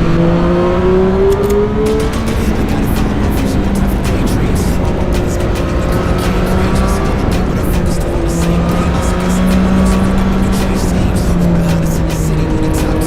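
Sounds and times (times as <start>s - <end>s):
background music: 0.0s - 13.0s
motorcycle engine running: 0.0s - 13.0s
wind noise: 0.0s - 13.0s.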